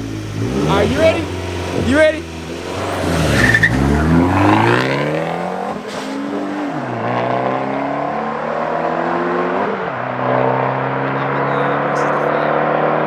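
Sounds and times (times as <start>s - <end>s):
race cars accelerating hard: 0.0s - 13.0s.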